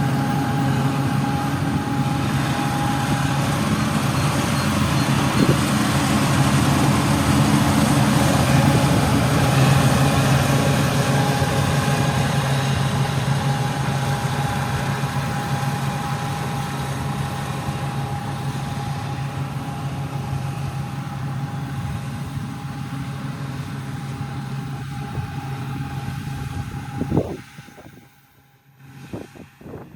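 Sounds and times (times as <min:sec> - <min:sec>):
heavy farm machinery engine: 0:00.0 - 0:29.9.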